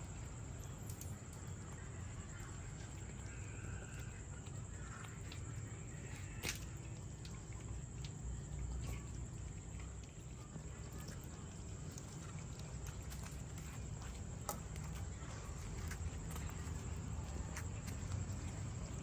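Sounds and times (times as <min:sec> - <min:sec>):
cats eating: 0:00.0 - 0:19.0.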